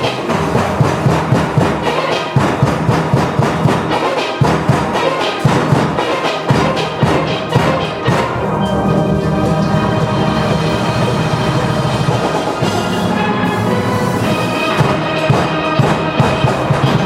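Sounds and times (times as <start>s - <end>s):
bass pans and drums beat: 0.0s - 17.0s
steel pans playing melody: 0.0s - 17.0s.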